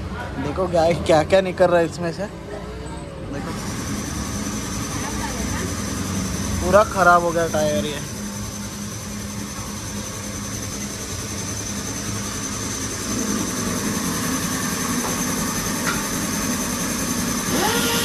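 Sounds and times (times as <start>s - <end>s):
machine running with high whine: 3.3s - 18.0s.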